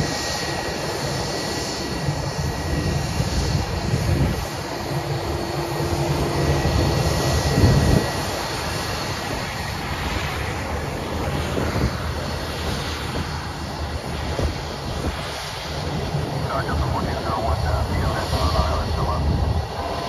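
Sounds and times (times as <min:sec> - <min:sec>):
faint high engine whine: 0:00.0 - 0:20.0
jet engines rumbling: 0:00.0 - 0:20.0.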